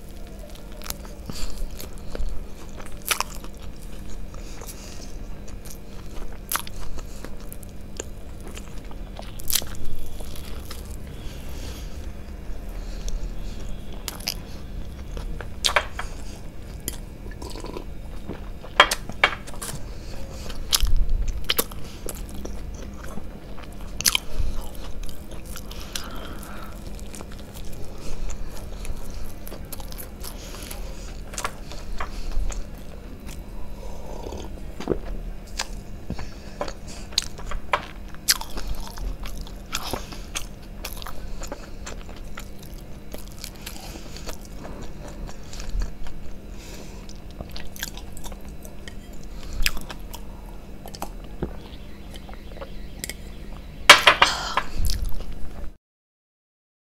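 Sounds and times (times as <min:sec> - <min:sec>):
person chewing food: 0:00.0 - 0:55.7.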